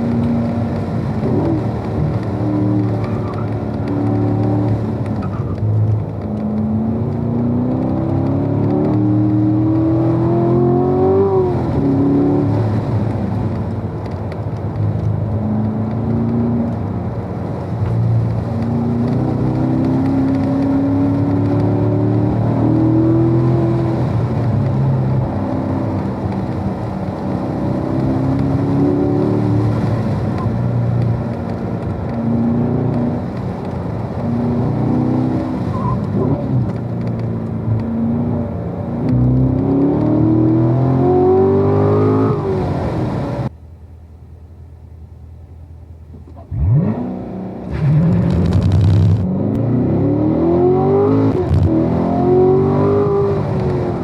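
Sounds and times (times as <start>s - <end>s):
car engine accelerating hard: 0.0s - 43.5s, 46.1s - 54.0s.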